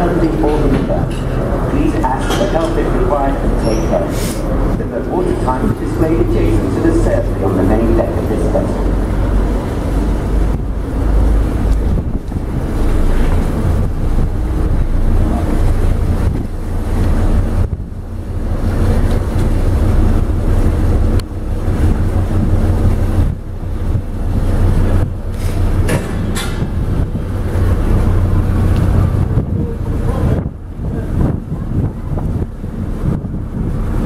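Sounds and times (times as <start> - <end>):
ferry engine rumble: 0.0 - 34.0
wind buffeting microphone: 0.0 - 34.0.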